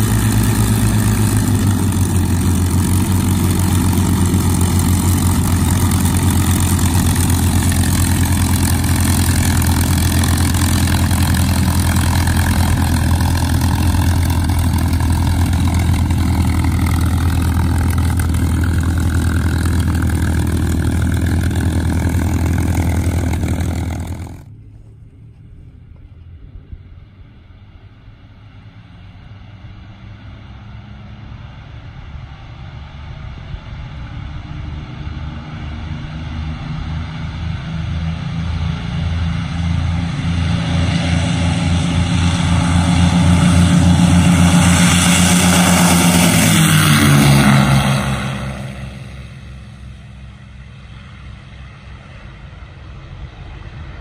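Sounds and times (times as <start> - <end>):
piston aircraft engines roaring: 0.0 - 54.0.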